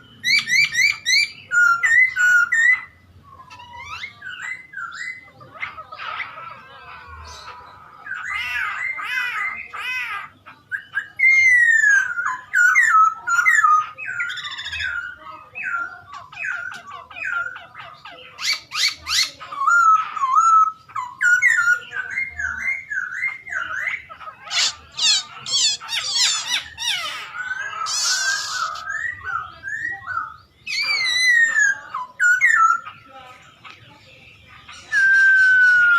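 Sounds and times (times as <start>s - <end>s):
songbird singing whistled notes: 0.0s - 9.8s, 10.4s - 35.9s
rapid high bird trills: 0.0s - 33.2s.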